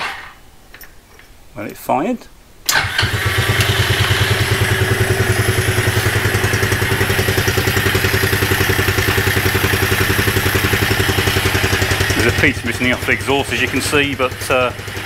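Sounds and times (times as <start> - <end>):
small engine idling rattly: 2.7 - 15.0.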